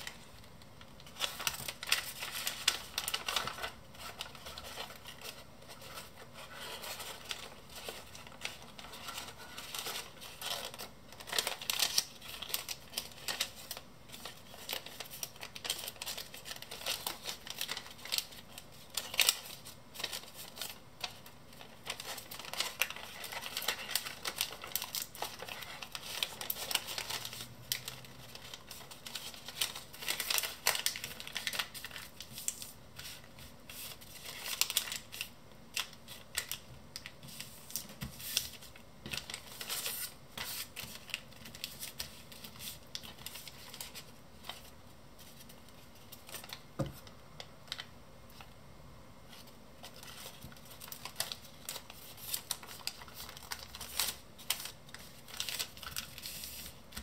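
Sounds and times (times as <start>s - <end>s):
paper being folded and creased: 0.0s - 48.5s, 49.3s - 57.0s.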